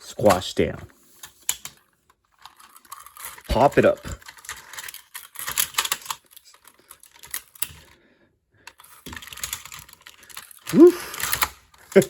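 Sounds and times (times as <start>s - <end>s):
plastic toy clicking and clattering: 1.2s - 8.0s, 8.7s - 12.0s.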